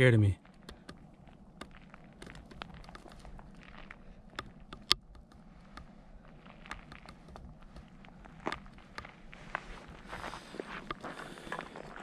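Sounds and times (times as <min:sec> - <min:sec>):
footsteps on gravel: 0:00.4 - 0:04.7, 0:05.3 - 0:12.0.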